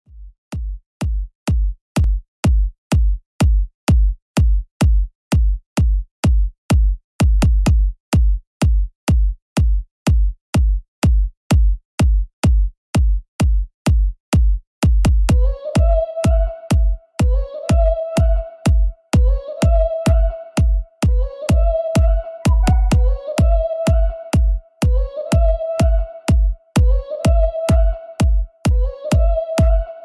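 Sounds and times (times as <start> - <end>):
drum machine kick drum: 0.1 - 29.8.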